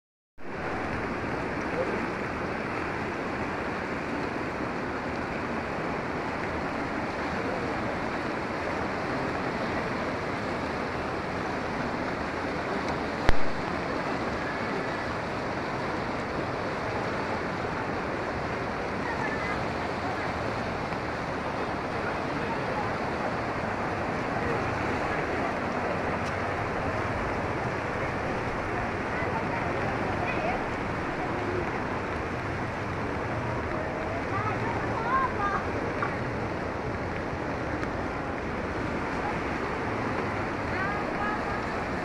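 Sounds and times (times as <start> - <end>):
flood water rushing: 0.4 - 42.0.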